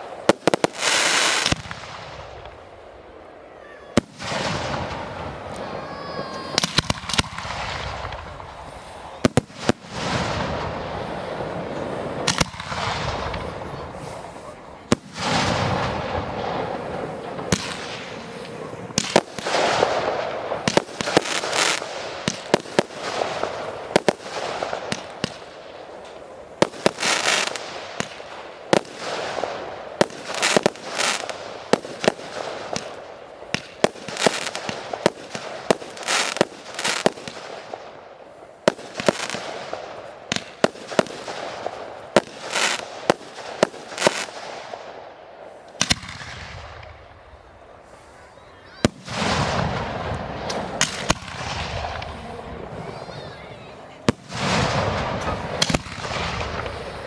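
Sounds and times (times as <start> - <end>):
firework crackling fizz: 0.0 - 57.0.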